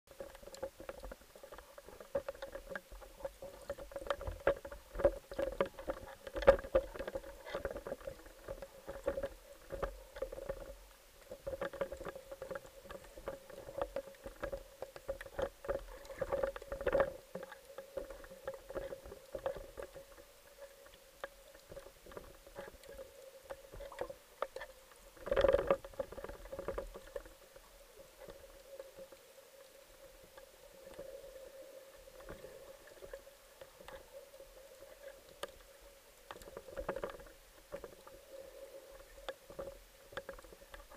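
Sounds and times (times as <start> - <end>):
clicks and crackles: 0.1 - 40.9
underwater hum: 0.1 - 40.9.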